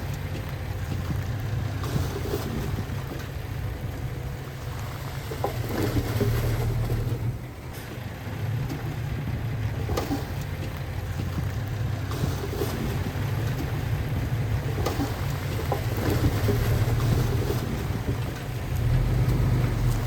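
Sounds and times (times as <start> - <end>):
diesel machinery rumbling: 0.0 - 20.0.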